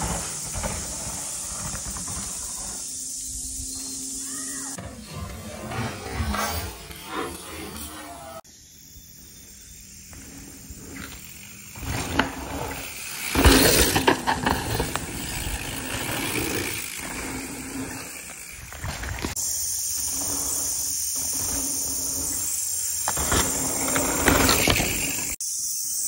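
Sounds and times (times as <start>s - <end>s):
bike tyres crunching on dirt: 0.0s - 25.4s.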